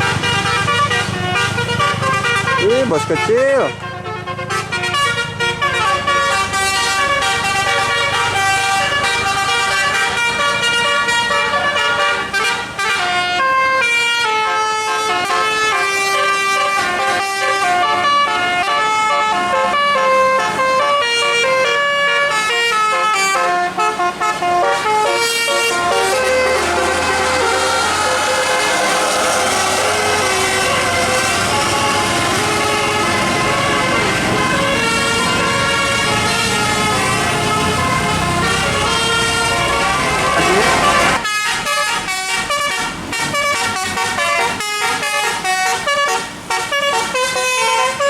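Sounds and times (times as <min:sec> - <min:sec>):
bus musical air horn tune: 0:00.0 - 0:48.0.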